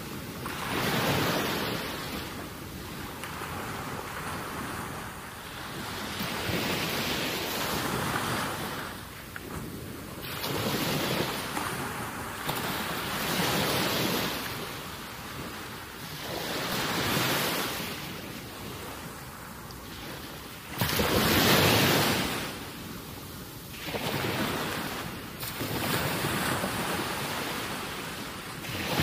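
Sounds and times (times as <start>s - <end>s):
sea water lapping on shore: 0.1s - 23.0s, 23.7s - 29.0s.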